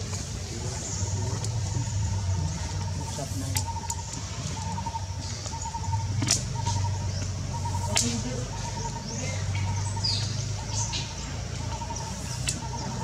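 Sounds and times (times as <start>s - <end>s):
bird chirps: 0.0s - 13.0s
steady low hum: 0.0s - 13.0s.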